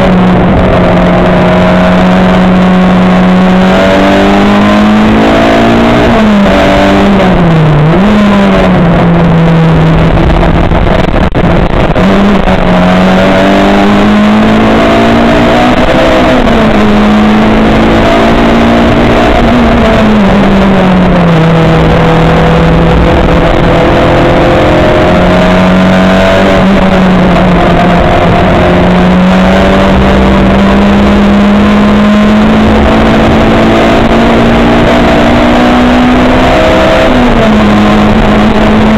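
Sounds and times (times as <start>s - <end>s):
racing car engine: 0.0s - 38.9s
road and wind noise: 0.0s - 38.9s.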